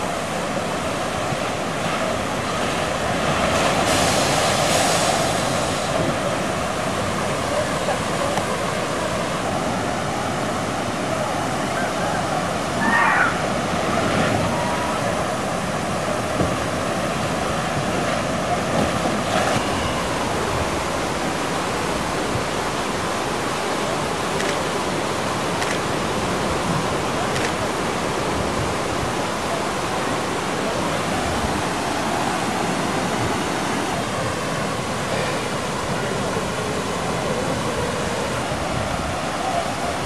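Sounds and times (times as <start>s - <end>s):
water rushing and splashing: 0.0s - 40.0s.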